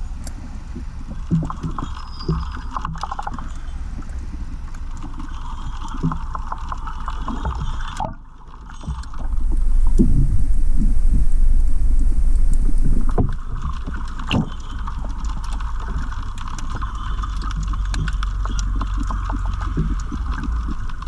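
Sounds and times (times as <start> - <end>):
small underwater clicks and crackles: 0.0 - 21.0
underwater rumble of moving water: 0.0 - 21.0.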